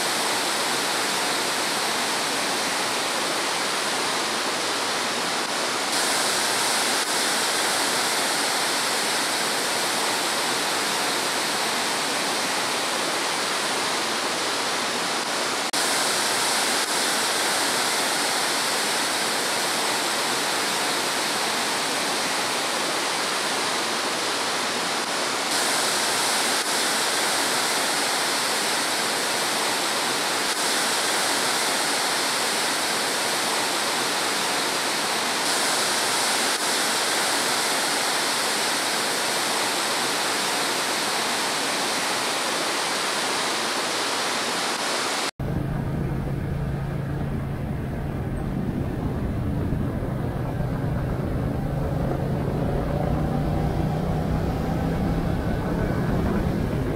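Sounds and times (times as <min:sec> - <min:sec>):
waterfall rushing: 0:00.0 - 0:45.4, 0:46.0 - 0:56.9.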